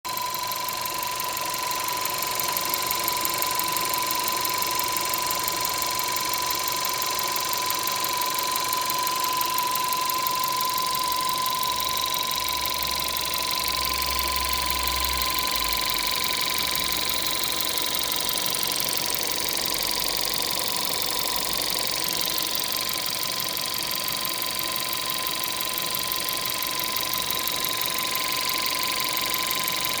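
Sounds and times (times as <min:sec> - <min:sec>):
engine running with high whine: 0:00.1 - 0:30.0
fast fine rattle: 0:00.1 - 0:30.0.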